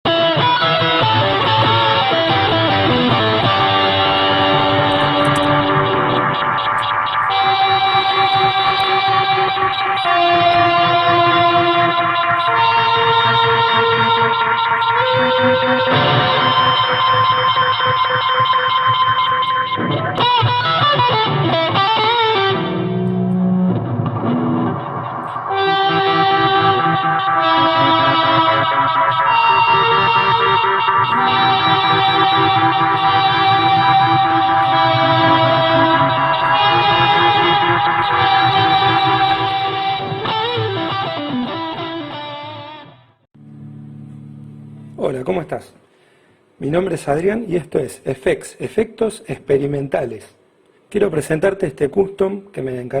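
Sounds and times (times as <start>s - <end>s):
fuzzy electric guitar melody: 0.0s - 45.0s.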